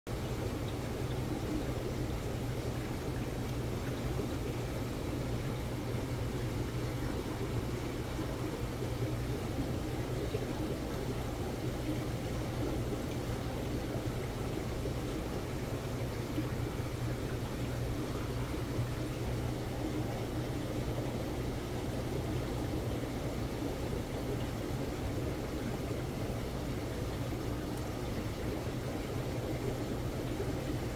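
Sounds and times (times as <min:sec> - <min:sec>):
aquarium pump hum: 0:00.1 - 0:30.9
rush of moving water: 0:00.1 - 0:30.9.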